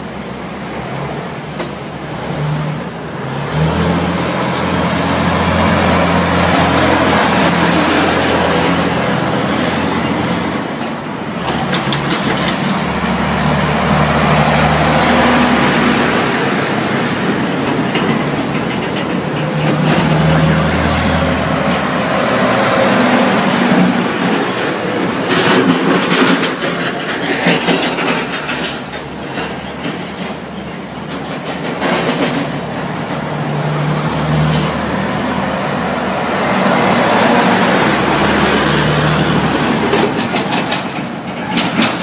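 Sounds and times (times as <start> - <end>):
train rumbling: 0.0 - 42.0
wheels clattering over rail joints: 1.4 - 42.0.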